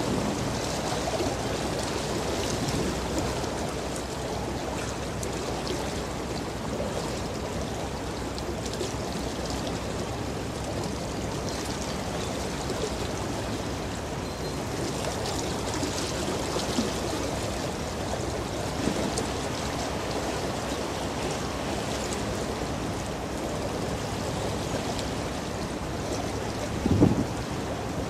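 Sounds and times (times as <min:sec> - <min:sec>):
water rushing and splashing: 0:00.0 - 0:28.0.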